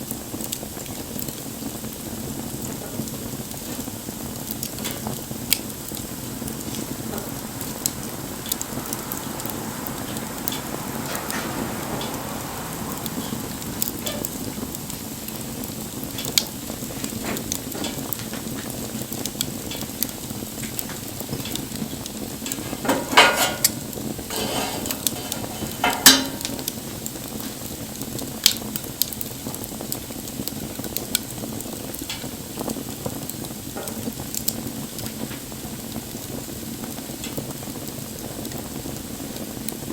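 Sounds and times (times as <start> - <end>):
bonfire hissing: 0.0 - 39.9
fire crackling and popping: 0.0 - 39.9.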